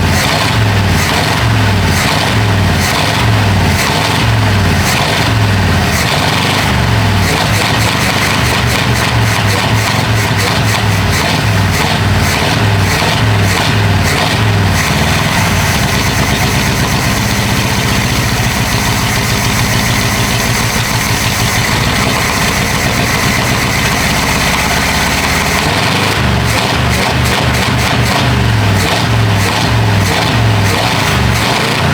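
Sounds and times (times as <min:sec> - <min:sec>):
pickup engine idling: 0:00.0 - 0:31.9.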